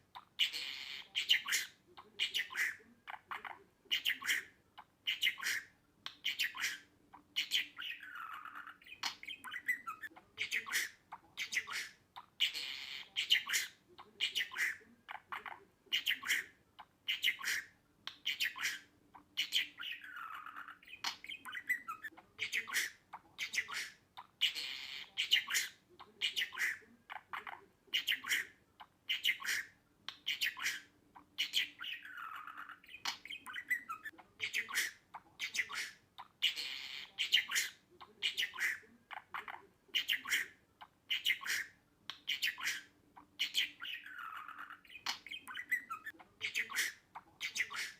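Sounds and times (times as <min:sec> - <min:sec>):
budgerigar chirping and warbling: 0:00.0 - 0:47.9.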